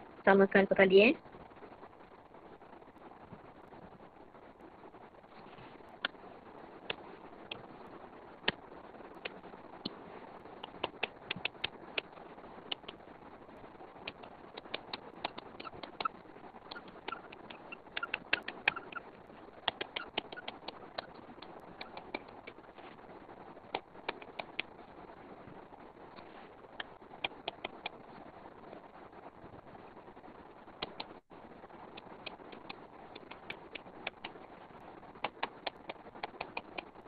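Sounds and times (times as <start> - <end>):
faint steady hiss: 0.0 - 37.0.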